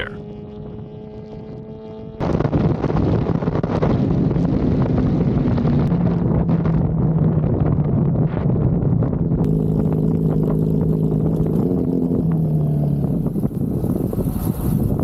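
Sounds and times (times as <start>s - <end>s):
engine droning: 0.0s - 15.0s
road and wind noise: 0.0s - 15.0s.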